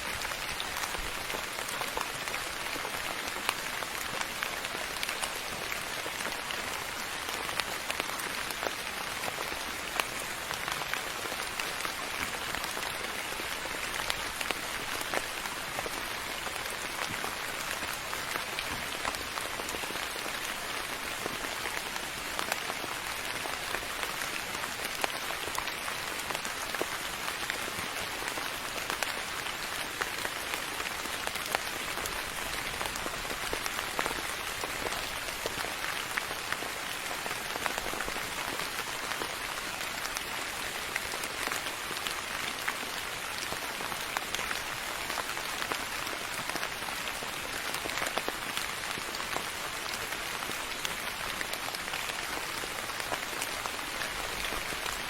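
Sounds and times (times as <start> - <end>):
soft rain hiss: 0.0 - 55.0.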